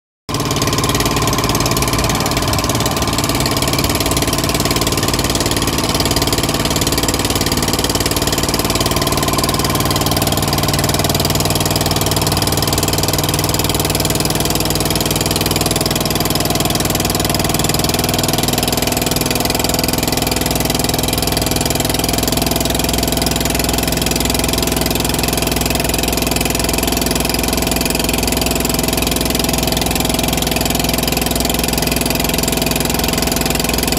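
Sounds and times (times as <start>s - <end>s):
boat engine humming: 0.3s - 33.9s.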